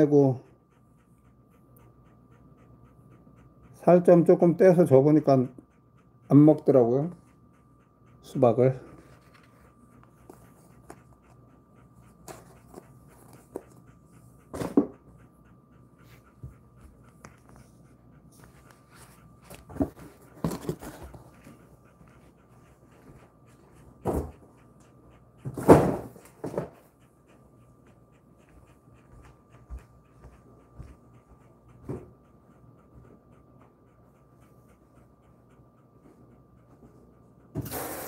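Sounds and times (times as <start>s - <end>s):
dog panting: 0.0s - 37.8s.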